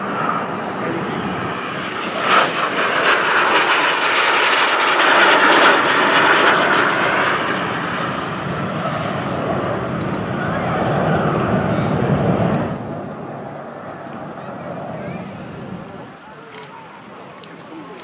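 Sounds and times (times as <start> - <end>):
jet engine roaring in flight: 0.0 - 18.0.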